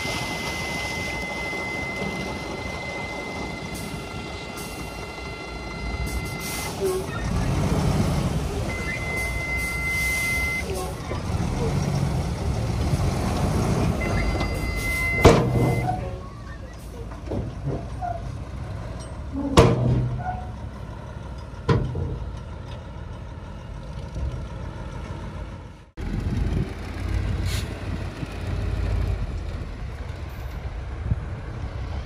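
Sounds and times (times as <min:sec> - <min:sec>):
diesel machinery rumbling: 0:00.0 - 0:32.0.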